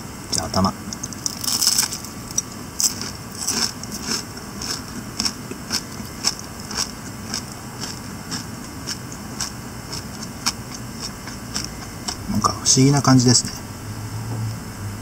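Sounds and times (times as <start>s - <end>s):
crunchy chewing: 0.3s - 12.6s.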